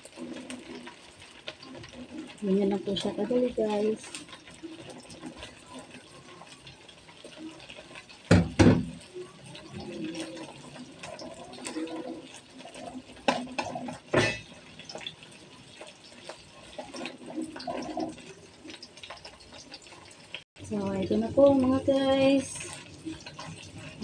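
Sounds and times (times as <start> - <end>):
shrimp sizzling in a wok: 0.0 - 24.0.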